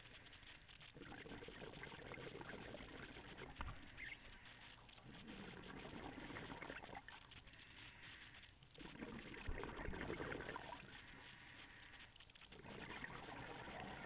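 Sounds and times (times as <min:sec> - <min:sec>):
underwater exhaled bubbles: 0:00.0 - 0:14.0.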